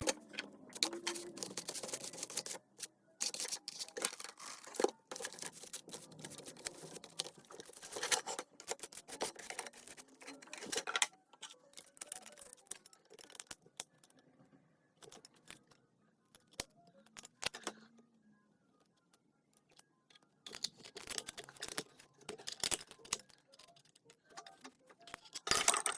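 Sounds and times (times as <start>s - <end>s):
plastic parts clicking and scraping: 0.0s - 14.2s, 15.0s - 18.0s, 19.6s - 25.9s.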